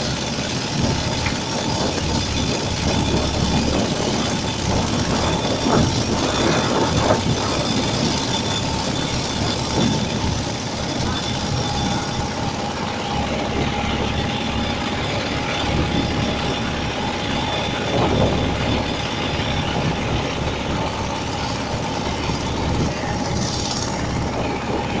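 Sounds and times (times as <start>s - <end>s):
boat engine whine: 0.0s - 25.0s
wide rushing noise: 0.0s - 25.0s.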